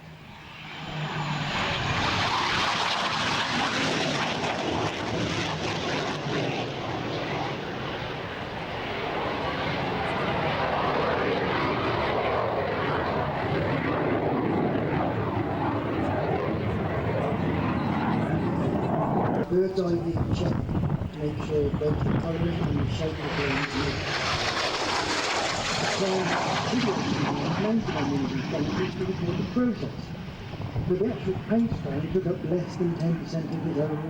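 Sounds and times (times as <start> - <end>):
jet fighter flying past: 0.0 - 34.0.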